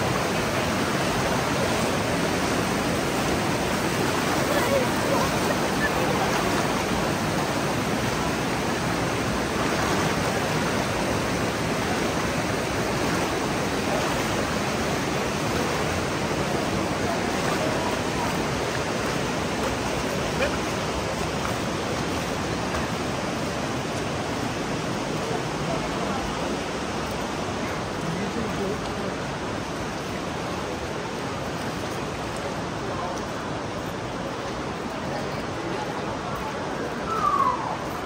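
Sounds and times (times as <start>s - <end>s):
river rushing over stones: 0.0s - 38.0s.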